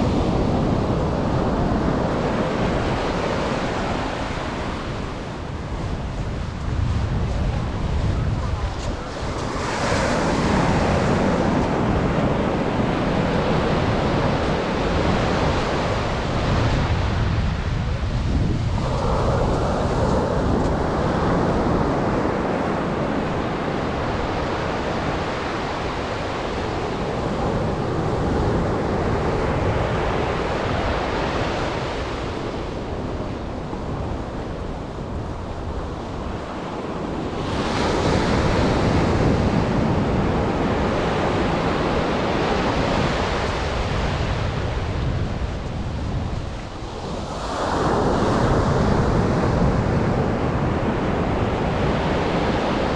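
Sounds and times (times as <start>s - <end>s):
wind rumbling on microphone: 0.0s - 52.9s.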